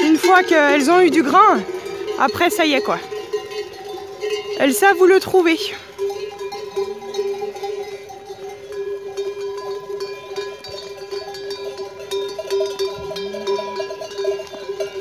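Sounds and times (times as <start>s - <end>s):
sheep bells jangling: 0.0s - 15.0s.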